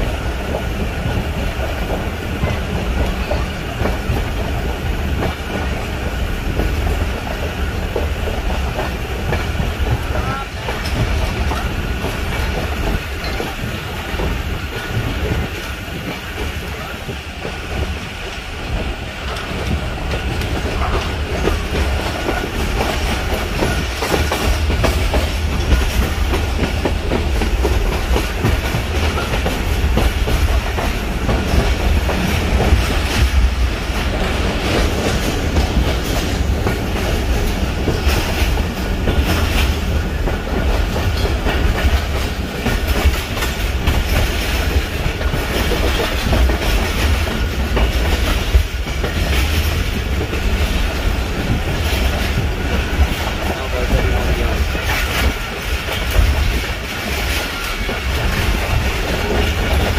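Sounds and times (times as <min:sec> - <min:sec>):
train rumbling on track: 0:00.0 - 0:59.9
wheels clicking over rail joints: 0:00.0 - 0:59.9.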